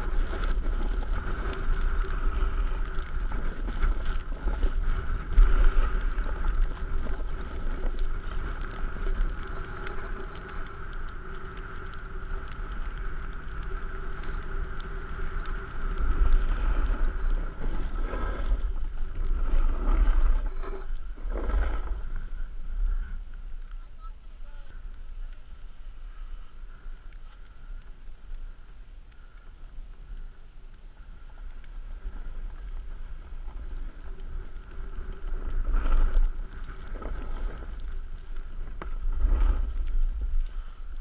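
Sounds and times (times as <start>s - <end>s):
sliding over packed snow: 0.0s - 41.0s
wind buffeting microphone: 0.0s - 41.0s.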